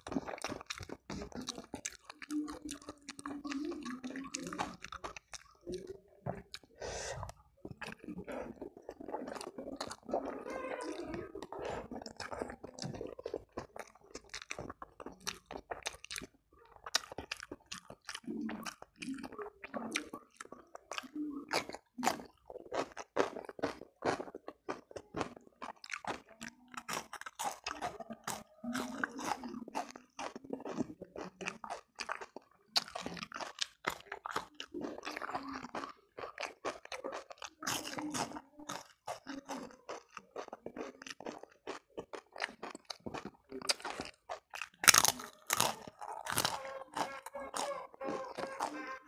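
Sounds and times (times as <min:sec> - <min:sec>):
chewing and crunching food: 0:00.0 - 0:49.0.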